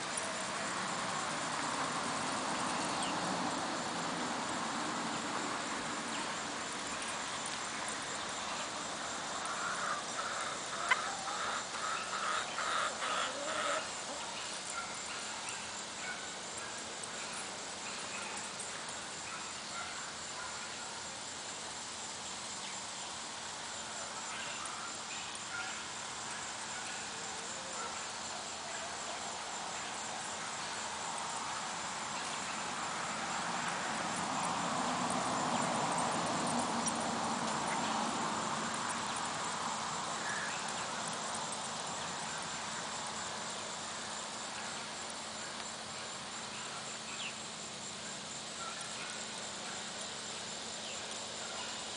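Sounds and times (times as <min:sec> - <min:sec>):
high-pitched insect trill: 0:00.0 - 0:51.9.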